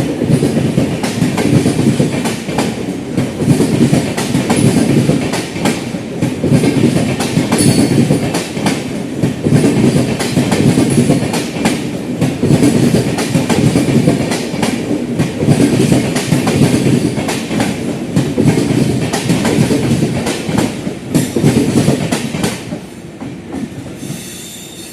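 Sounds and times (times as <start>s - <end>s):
train wheels clattering over rail joints: 0.2s - 24.2s.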